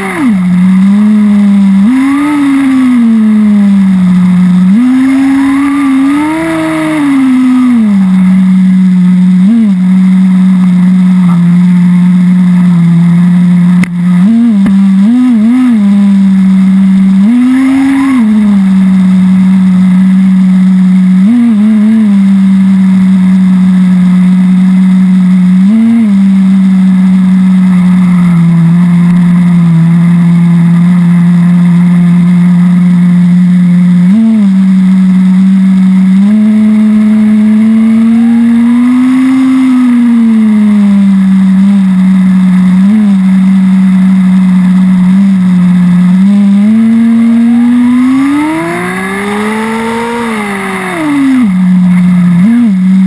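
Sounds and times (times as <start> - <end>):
nitro engine revving: 0.0 - 53.0.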